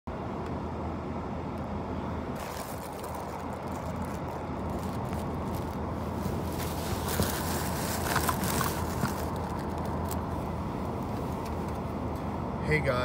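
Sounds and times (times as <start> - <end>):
car air conditioning rumble: 0.1 - 13.0.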